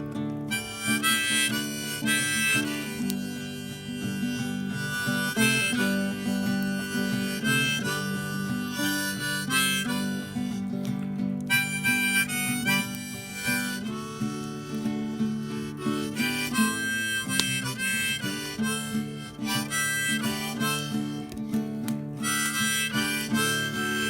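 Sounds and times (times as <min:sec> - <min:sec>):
acoustic guitar accompaniment: 0:00.0 - 0:24.0
harmonica solo: 0:00.0 - 0:24.0.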